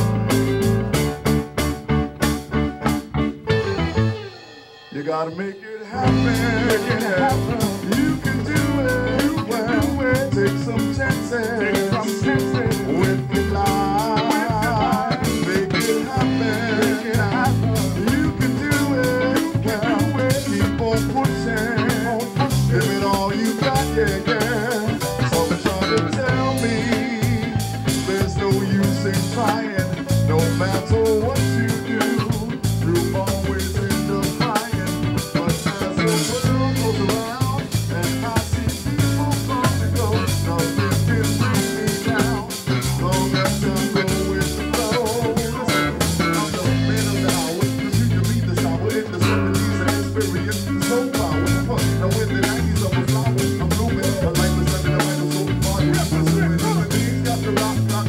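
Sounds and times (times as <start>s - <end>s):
live funk-blues band playing: 0.0s - 58.0s.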